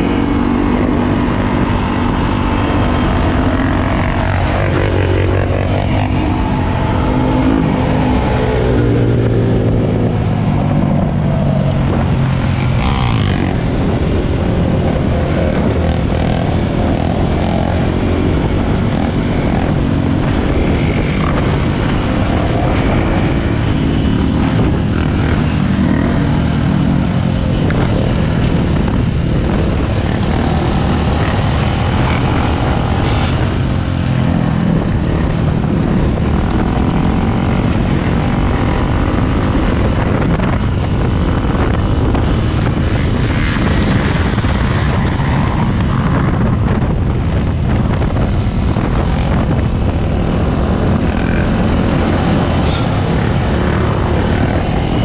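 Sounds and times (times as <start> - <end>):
dirt bike engine: 0.0 - 55.0
nearby off-road engines: 0.0 - 55.0.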